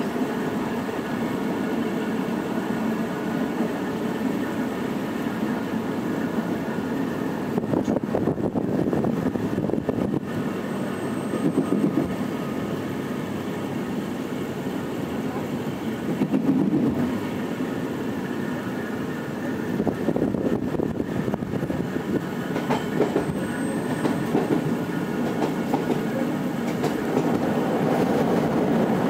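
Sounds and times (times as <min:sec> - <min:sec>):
train running rumble and rattling: 0:00.0 - 0:29.0.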